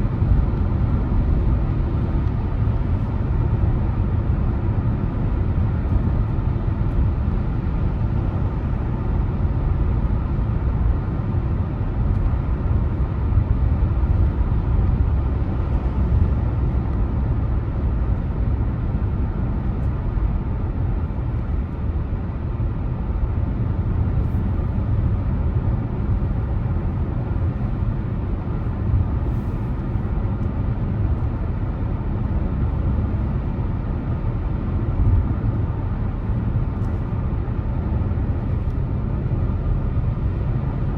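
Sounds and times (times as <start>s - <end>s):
car engine rumble: 0.0s - 40.9s
tyre road noise: 0.0s - 40.9s.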